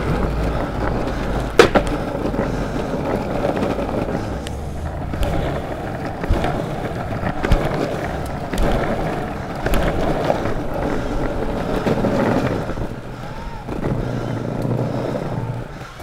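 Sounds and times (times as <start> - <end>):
longboard wheels rolling on pavement: 0.0 - 16.0
wheels clicking over joints: 0.0 - 16.0.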